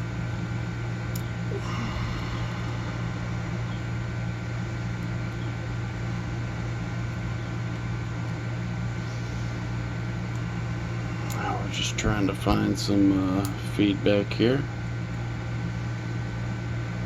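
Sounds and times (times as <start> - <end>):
air conditioning hum: 0.0 - 17.0.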